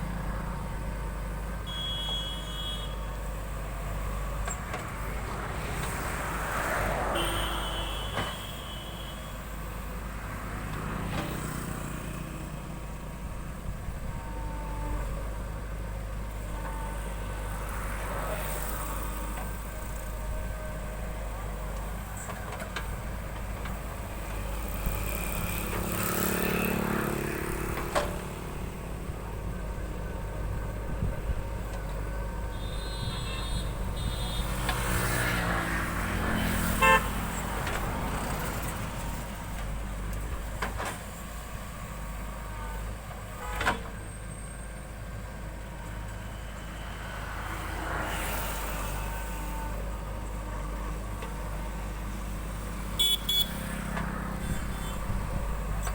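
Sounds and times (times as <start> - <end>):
backhoe diesel engine running: 7.2 - 55.9.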